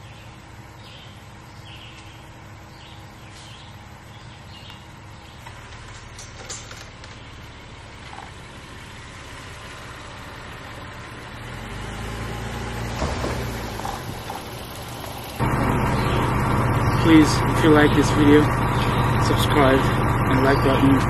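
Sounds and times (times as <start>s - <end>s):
truck engine driving on dirt: 0.0s - 21.0s.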